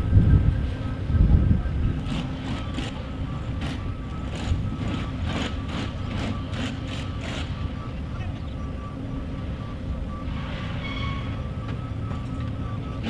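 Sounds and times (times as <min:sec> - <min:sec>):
construction machinery engine drone: 0:00.0 - 0:13.0.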